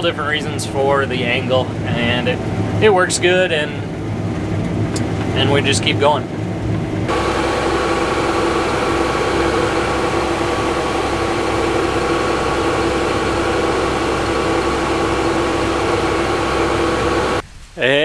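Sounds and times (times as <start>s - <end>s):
combine harvester droning: 0.0s - 17.4s.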